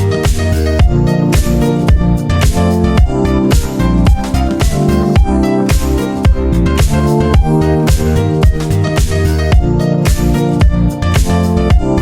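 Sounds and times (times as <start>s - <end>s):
electronic music with fast beat: 0.0s - 12.0s.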